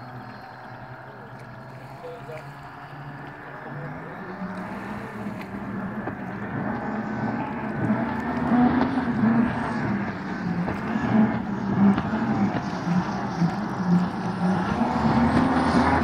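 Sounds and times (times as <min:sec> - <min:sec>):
distant boat engine: 0:00.0 - 0:16.0.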